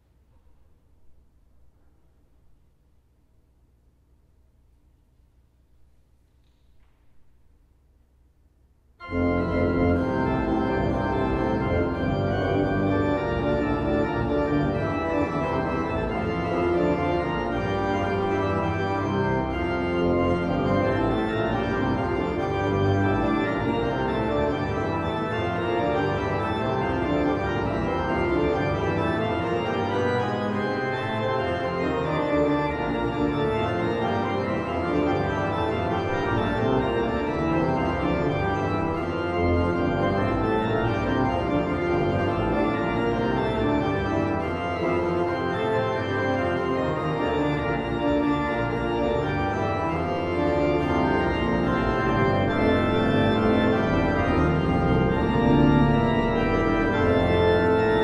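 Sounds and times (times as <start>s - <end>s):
pipe organ pedal chords: 9.0s - 58.0s.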